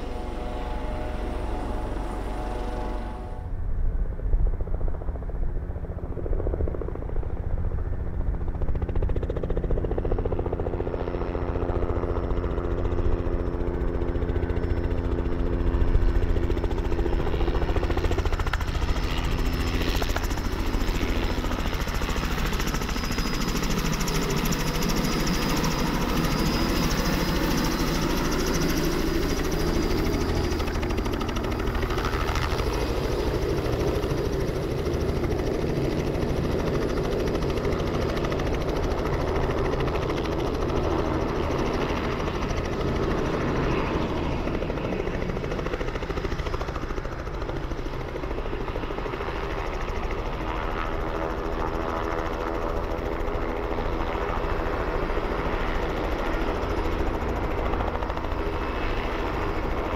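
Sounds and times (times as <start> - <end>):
helicopter rotor beating: 0.0 - 59.9
turbine engine whine: 0.0 - 59.9.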